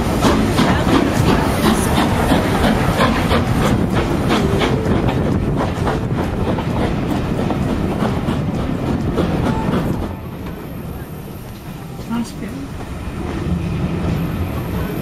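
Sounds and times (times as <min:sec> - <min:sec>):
wheels clicking and knocking: 0:00.0 - 0:12.1
train carriage rumbling on track: 0:00.0 - 0:15.0.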